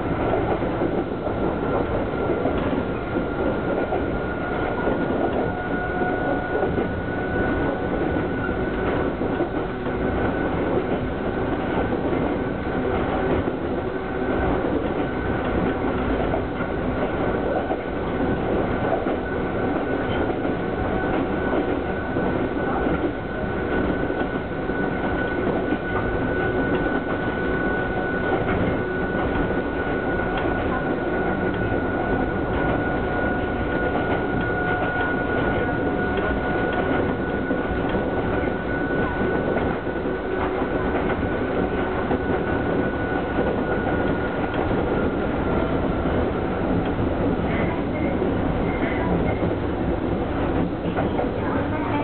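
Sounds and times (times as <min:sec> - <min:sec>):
electric train running on track: 0:00.0 - 0:52.0.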